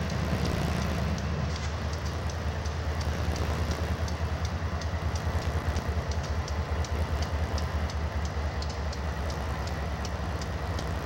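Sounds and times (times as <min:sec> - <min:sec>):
diesel locomotive rumbling: 0:00.0 - 0:11.0
light irregular ticks: 0:00.0 - 0:11.0.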